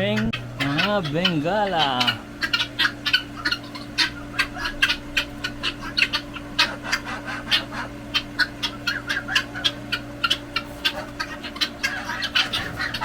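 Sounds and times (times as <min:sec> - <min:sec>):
finches chirping: 0:00.0 - 0:13.0
steady low hum: 0:00.0 - 0:13.0.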